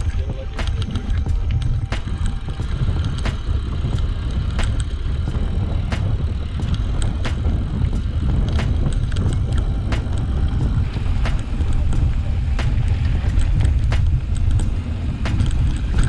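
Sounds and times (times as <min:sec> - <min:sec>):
bike knocking and rattling: 0:00.0 - 0:16.0
wind and tyre rumble: 0:00.0 - 0:16.0.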